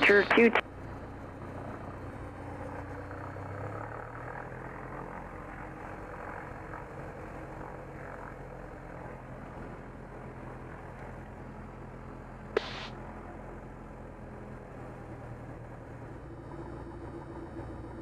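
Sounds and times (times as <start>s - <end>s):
aircraft engine and propeller: 0.0s - 18.0s.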